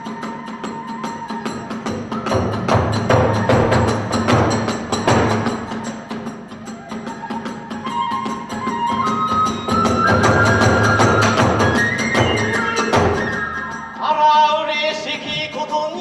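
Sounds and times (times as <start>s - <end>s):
drums beating: 0.0s - 14.2s
held high tone: 0.0s - 14.2s.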